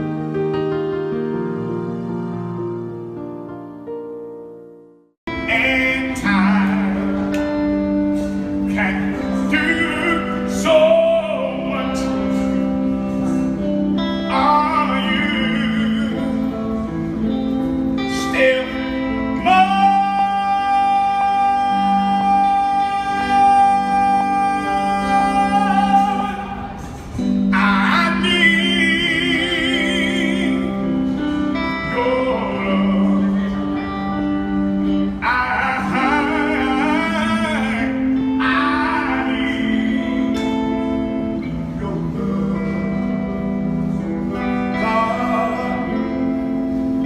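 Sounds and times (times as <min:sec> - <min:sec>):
sustained low backing notes: 0:00.0 - 0:47.0
person singing with vibrato: 0:05.3 - 0:47.0.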